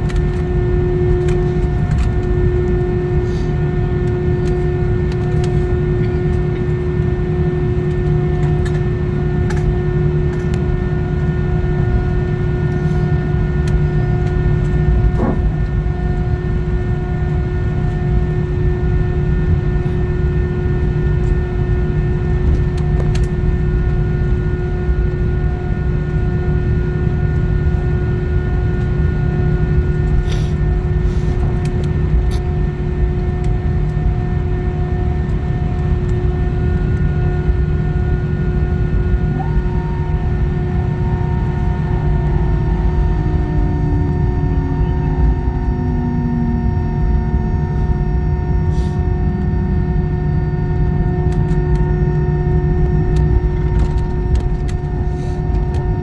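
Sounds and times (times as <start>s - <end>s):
jet engines idling rumble: 0.0s - 56.0s.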